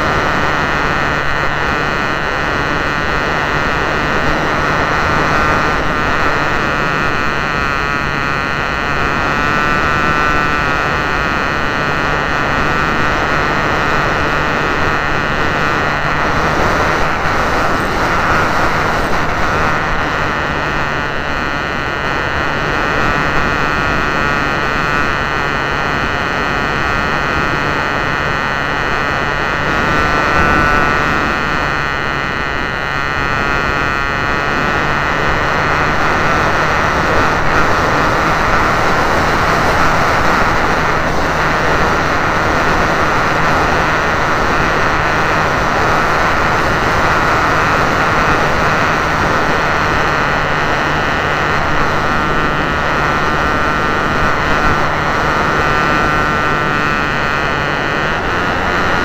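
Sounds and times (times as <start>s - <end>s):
model airplane motor and propeller: 0.0s - 59.0s
wind rush on microphone: 0.0s - 59.0s.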